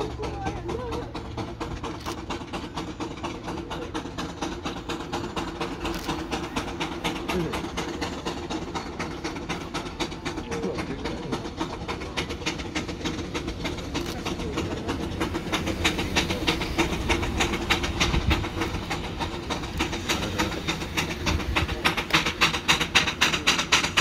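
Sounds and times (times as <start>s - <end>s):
steam rollers chuffing: 0.0s - 24.0s.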